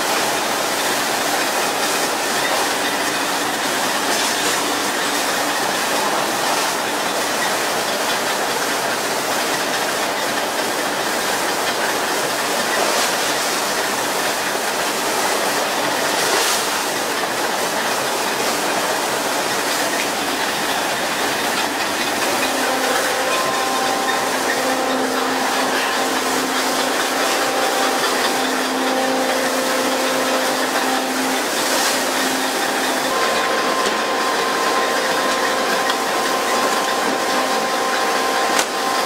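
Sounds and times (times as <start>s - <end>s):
sea churning along hull: 0.0s - 39.0s
water spraying: 0.0s - 39.0s.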